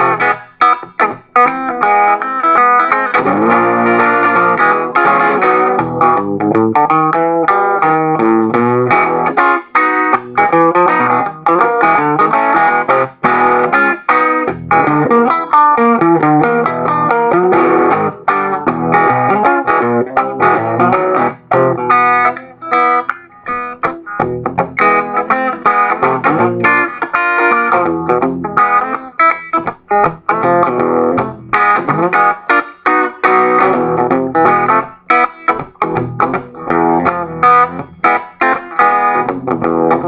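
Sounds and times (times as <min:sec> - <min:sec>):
electric guitar blues riffs: 0:00.0 - 0:40.0.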